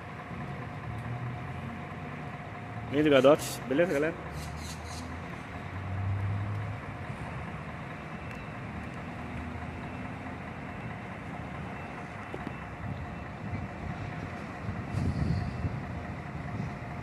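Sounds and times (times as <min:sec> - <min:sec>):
bus diesel engine running: 0:00.0 - 0:17.0
traffic hum: 0:00.0 - 0:17.0.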